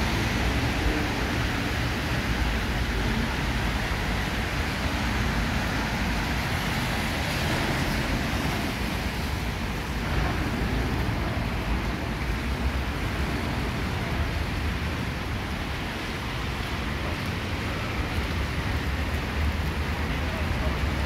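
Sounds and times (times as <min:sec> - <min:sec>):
heavy rain on street: 0:00.0 - 0:21.0
traffic on wet road: 0:00.0 - 0:21.0.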